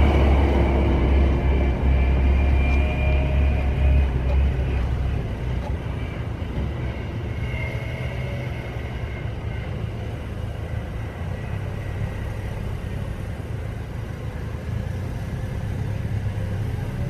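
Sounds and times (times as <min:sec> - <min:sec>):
faint high whine: 0:00.0 - 0:17.0
streetcar rumbling: 0:00.0 - 0:17.0.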